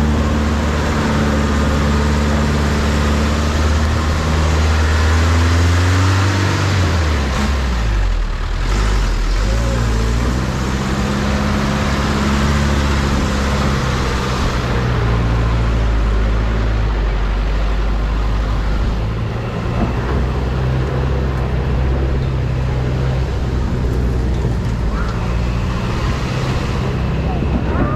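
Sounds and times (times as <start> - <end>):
vehicle engine running: 0.0 - 27.9.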